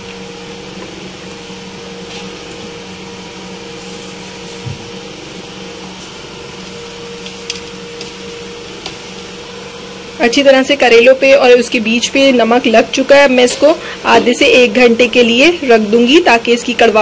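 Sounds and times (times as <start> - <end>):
appliance motor humming: 0.0 - 17.0.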